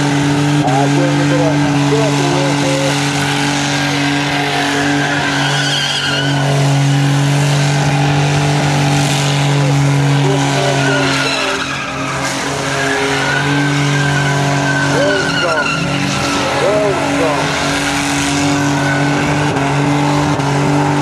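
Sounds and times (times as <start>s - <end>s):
car engine at high revs: 0.0s - 21.0s
tyres squealing: 0.6s - 20.1s.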